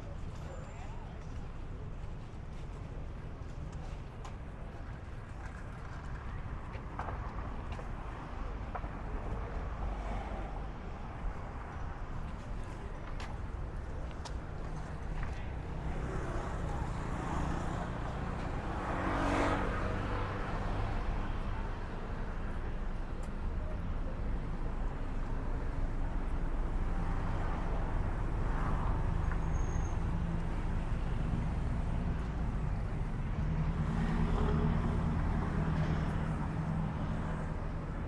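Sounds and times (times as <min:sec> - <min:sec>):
hum of car engines: 0:00.0 - 0:38.0
vehicles passing: 0:00.0 - 0:38.0.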